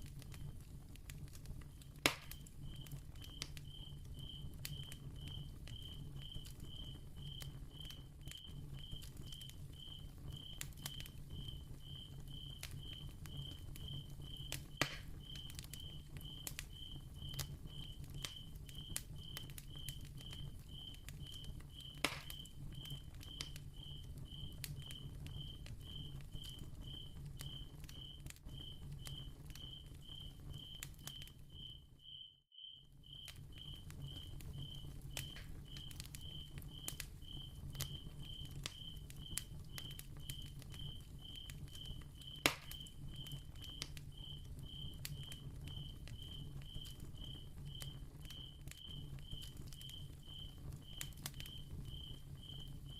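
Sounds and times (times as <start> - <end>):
candle flame crackling: 0.0 - 32.2, 33.0 - 52.9.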